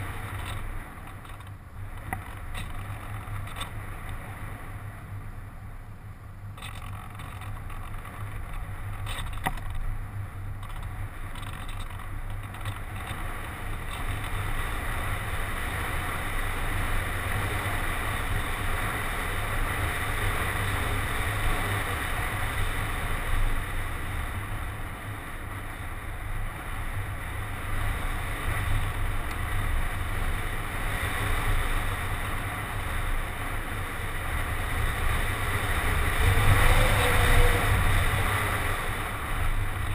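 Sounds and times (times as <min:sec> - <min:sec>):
rushing airflow over camera: 0:06.5 - 0:39.9.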